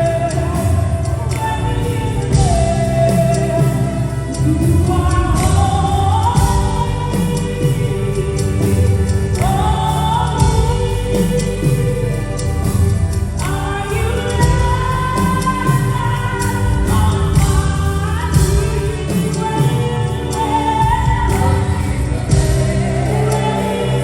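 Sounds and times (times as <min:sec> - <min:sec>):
drums: 0:00.0 - 0:24.0
gospel singers: 0:00.0 - 0:24.0.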